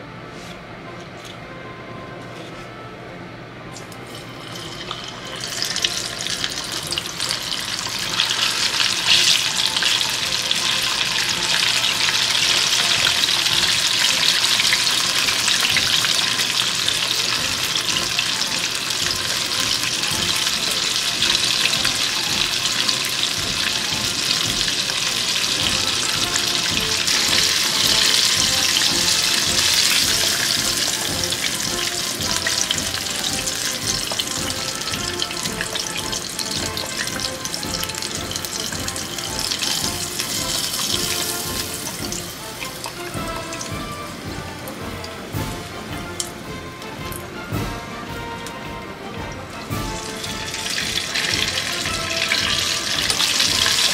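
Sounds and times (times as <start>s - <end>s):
chicken deep-frying in oil: 3.8s - 53.9s.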